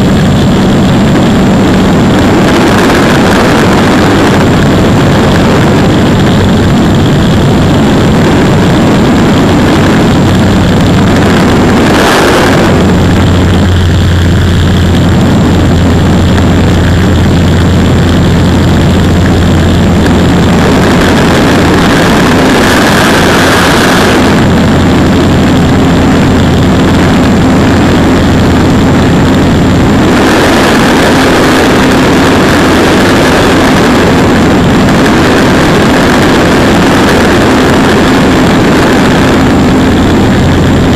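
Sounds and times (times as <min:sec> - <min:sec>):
propeller plane engine droning: 0:00.0 - 0:40.9
rushing noise: 0:00.0 - 0:40.9.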